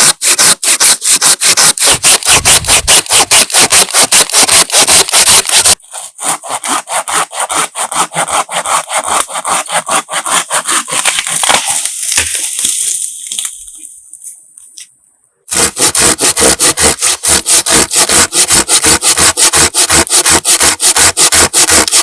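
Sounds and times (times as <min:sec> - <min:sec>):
hand saw cutting wood: 0:00.0 - 0:12.8, 0:15.5 - 0:22.0.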